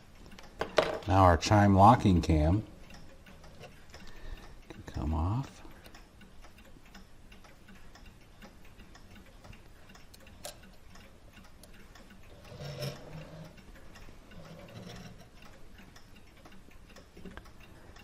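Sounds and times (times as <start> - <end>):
mechanical clock ticking: 0.0 - 18.0.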